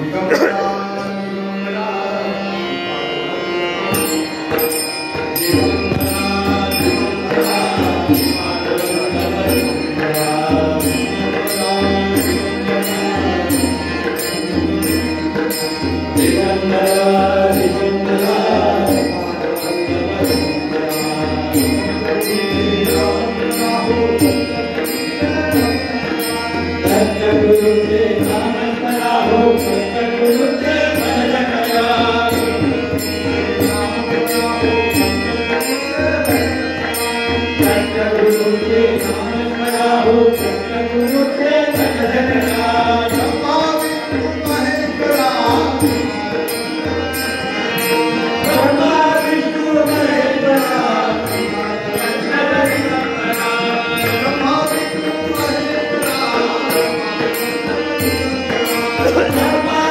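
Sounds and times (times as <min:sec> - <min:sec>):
men singing together: 0:00.0 - 0:59.9
hand cymbals beat: 0:03.9 - 0:59.9.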